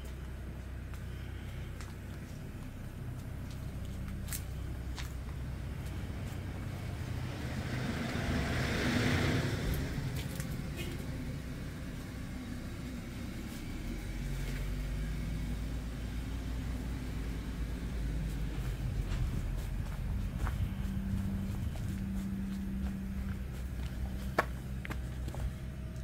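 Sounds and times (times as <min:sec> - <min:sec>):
mill machinery humming: 0:00.0 - 0:26.0.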